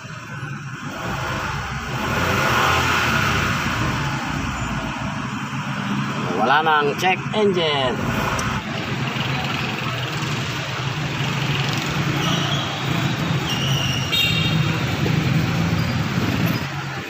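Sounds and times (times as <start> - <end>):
street and traffic noise: 0.0 - 17.0.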